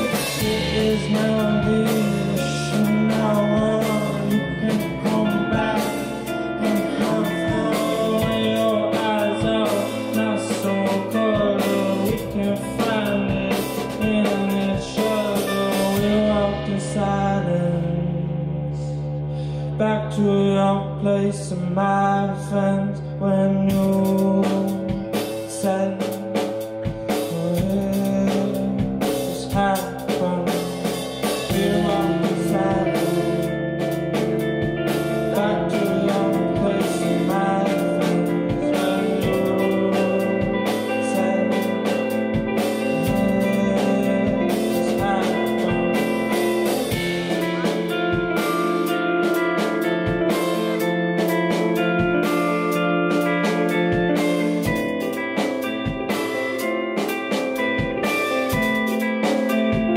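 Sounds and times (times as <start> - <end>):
drum kit beat: 0.0 - 18.0, 23.6 - 59.9
bass guitar: 0.0 - 59.9
electric guitar: 0.0 - 59.9
keyboard: 0.0 - 59.9.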